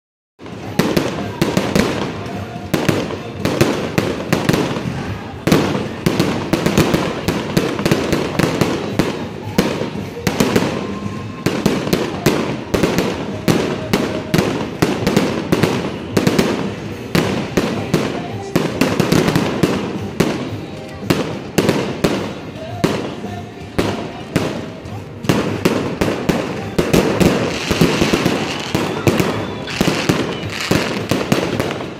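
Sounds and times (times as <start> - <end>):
fireworks bangs: 0.4 - 31.9.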